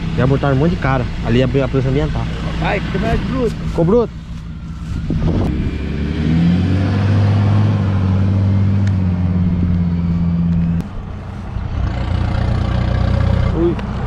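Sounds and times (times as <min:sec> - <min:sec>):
diesel engine revving hard: 0:00.0 - 0:04.0, 0:05.1 - 0:10.8, 0:11.6 - 0:14.0.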